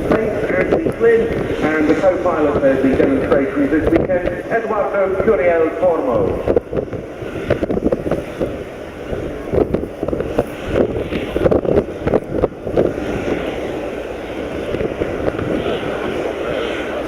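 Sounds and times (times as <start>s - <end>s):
turboprop aircraft engines: 0.0s - 17.0s
wind buffeting microphone: 0.0s - 17.0s.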